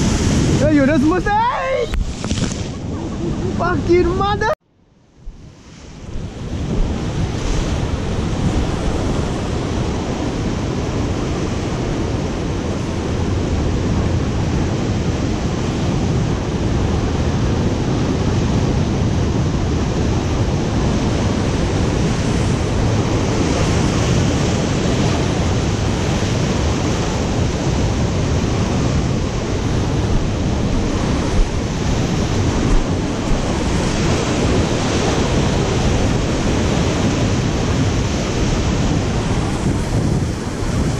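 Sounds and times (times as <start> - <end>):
ocean surf breaking over rocks: 0.0 - 4.6, 5.2 - 40.9
wind on microphone: 0.0 - 40.9.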